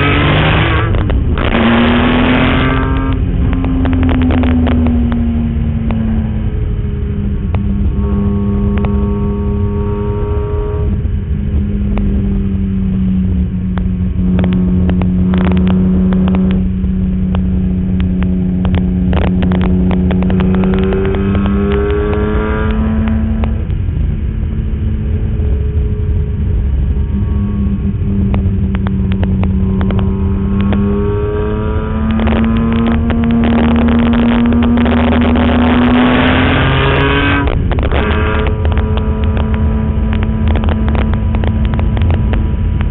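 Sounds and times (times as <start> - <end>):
car engine revving hard: 0.0 - 12.3, 14.1 - 23.9, 25.5 - 42.9
road and wind rumble: 0.0 - 42.9.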